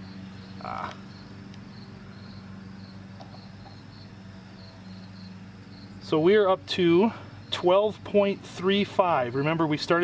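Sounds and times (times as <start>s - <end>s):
crickets chirping: 0.0s - 9.9s
low steady hum: 0.0s - 10.0s.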